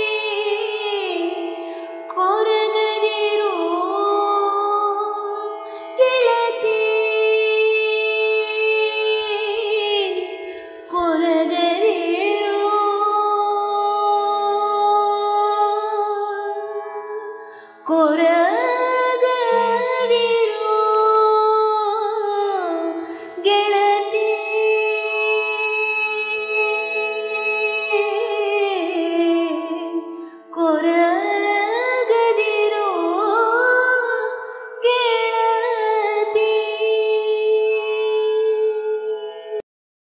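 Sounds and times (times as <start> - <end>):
woman singing: 0.0 - 39.6.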